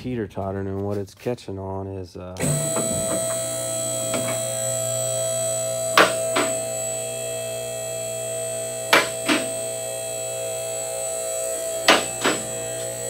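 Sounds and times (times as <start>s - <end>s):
hydraulic pump motor humming: 2.4s - 13.0s.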